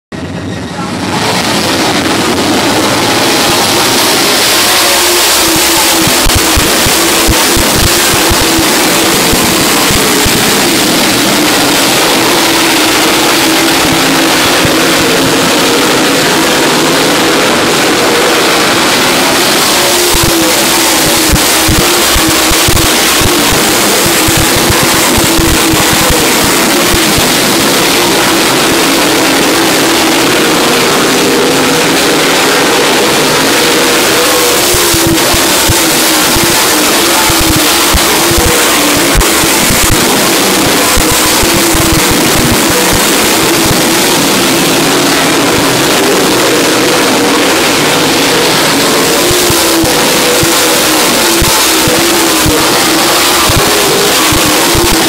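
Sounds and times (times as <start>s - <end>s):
race car engines roaring: 0.0s - 55.0s.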